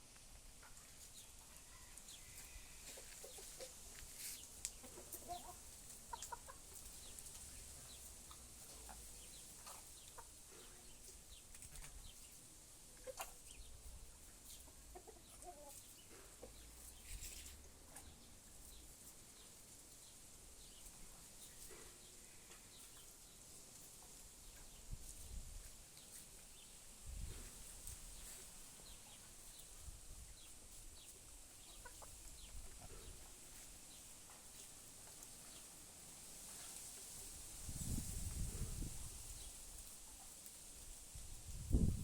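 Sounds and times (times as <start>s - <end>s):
chickens clucking faintly: 0.0s - 42.0s.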